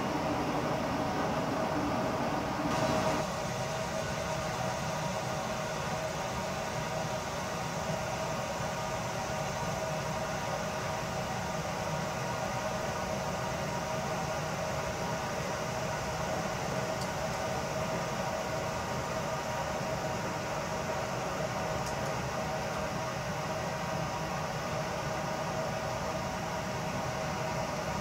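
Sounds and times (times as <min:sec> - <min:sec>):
mechanical whir with hum: 0:00.0 - 0:28.0.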